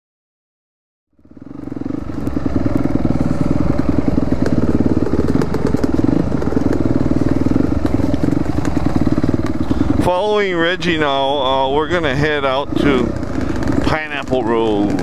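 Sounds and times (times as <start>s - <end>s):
dirt bike engine running: 1.2s - 15.0s.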